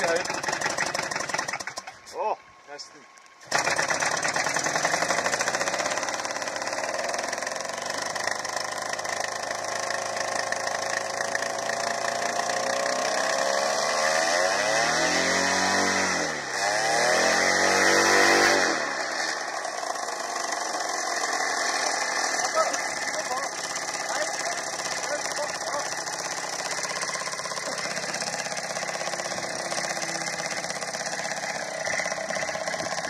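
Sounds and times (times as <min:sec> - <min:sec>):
flying boat engine running: 0:03.5 - 0:33.0.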